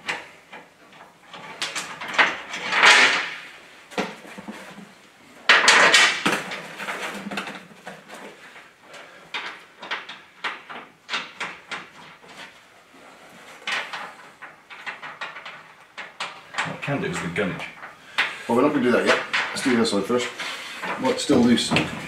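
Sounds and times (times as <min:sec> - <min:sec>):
metal bolts clinking and rattling: 0:00.0 - 0:03.6, 0:05.5 - 0:08.2, 0:09.3 - 0:22.0
scraping metal rattle: 0:00.0 - 0:04.8, 0:05.5 - 0:22.0.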